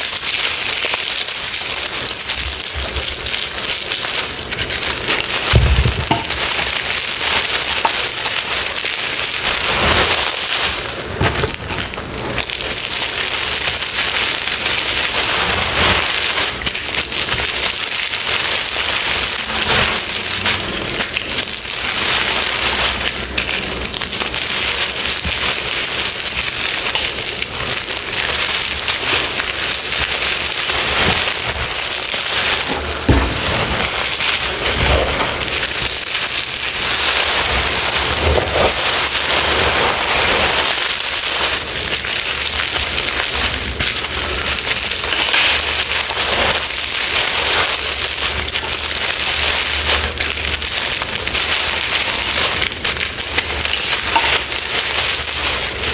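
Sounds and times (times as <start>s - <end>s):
confetti being crushed: 0.0s - 55.9s.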